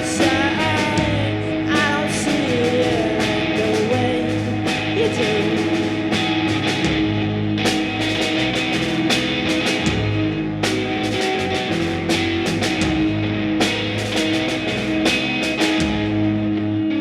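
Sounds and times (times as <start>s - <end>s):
drum kit beat: 0.0s - 16.4s
bass guitar: 0.0s - 17.0s
electric guitar: 0.0s - 17.0s.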